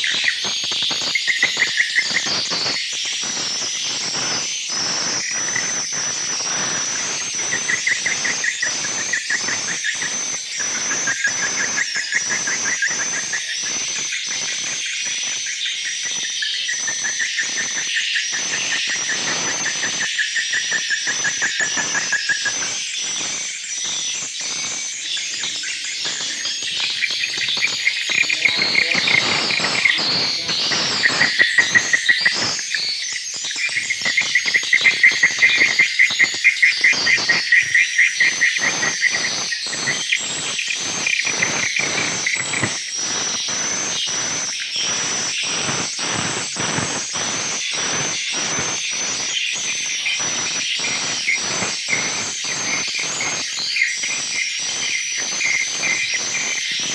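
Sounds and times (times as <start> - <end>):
swiftlets twittering: 0.0 - 56.9.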